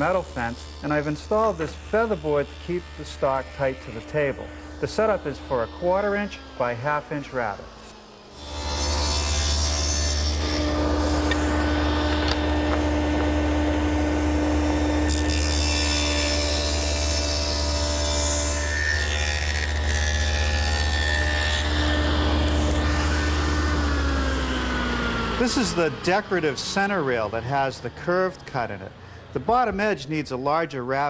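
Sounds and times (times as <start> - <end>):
steady motor hum: 0.0 - 27.4
table saw cutting wood: 0.0 - 30.8.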